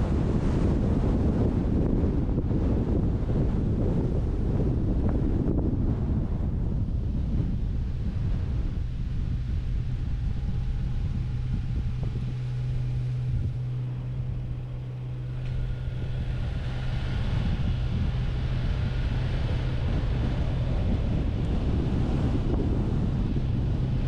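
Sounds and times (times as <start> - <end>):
car engine and tyre hum: 0.0 - 24.0
wind rumble on microphone: 0.0 - 24.0.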